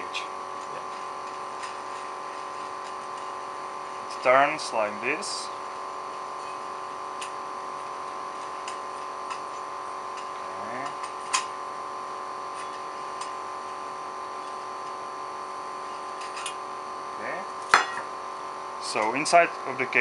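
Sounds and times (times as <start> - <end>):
electrical hum of equipment: 0.0 - 20.0.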